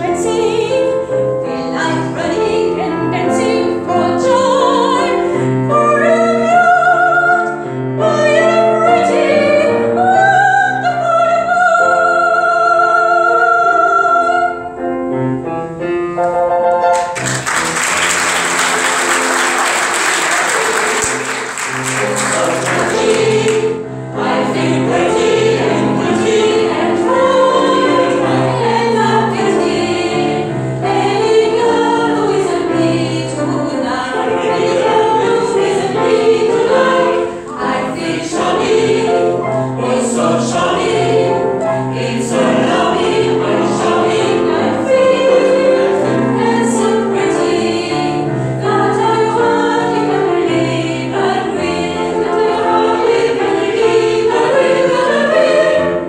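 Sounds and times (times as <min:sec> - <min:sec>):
mixed choir singing: 0:00.0 - 0:14.8, 0:17.2 - 0:56.0.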